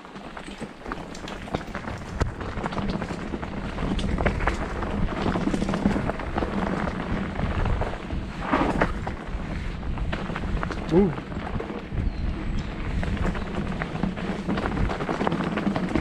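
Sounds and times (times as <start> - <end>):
bike clicks and rattles: 0.0 - 16.0
bike tyres rolling over dirt: 0.0 - 16.0.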